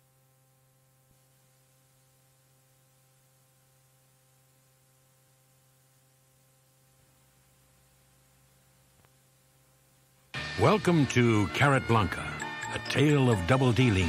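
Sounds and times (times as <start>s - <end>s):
cassette tape hiss and hum: 0.0s - 14.0s.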